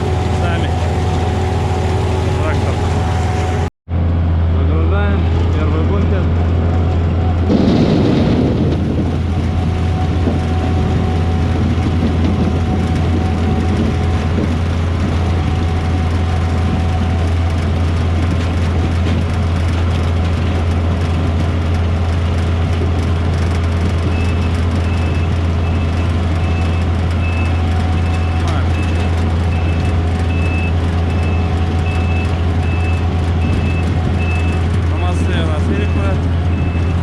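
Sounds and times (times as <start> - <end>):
harvester engine droning: 0.0 - 37.0.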